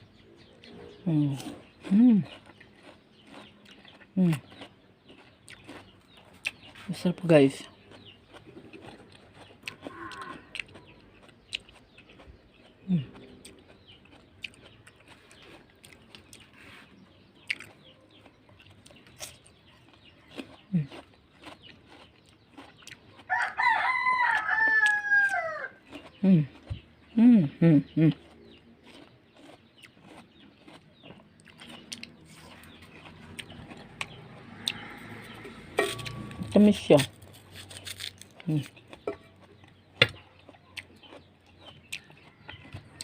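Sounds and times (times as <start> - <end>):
person chewing: 0.0 - 43.0.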